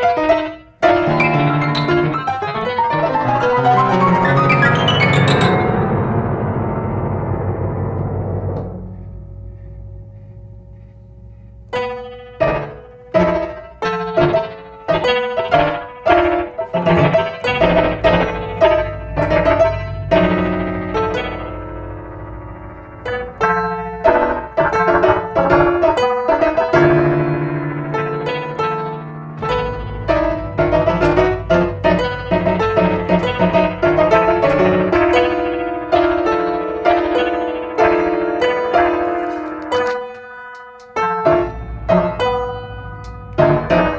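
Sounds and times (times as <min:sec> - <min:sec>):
grand piano playing: 0:00.0 - 0:43.9.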